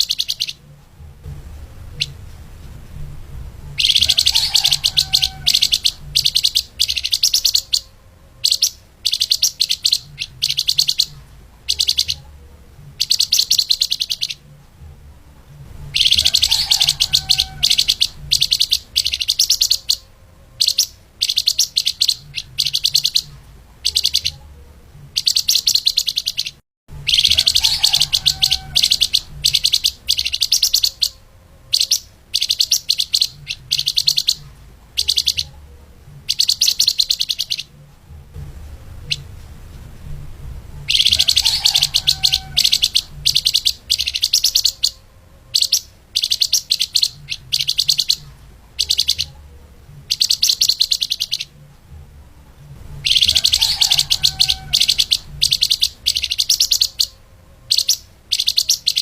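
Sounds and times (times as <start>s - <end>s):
songbird singing rapid notes: 0.0s - 2.3s, 3.1s - 37.9s, 40.8s - 51.7s, 52.8s - 59.0s.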